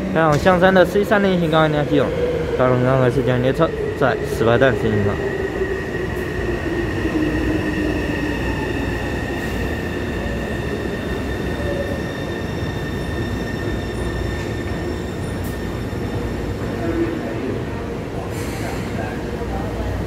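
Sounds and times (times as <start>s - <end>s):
train high whine: 0.0s - 20.0s
train wheels rumbling on rail: 0.0s - 20.0s.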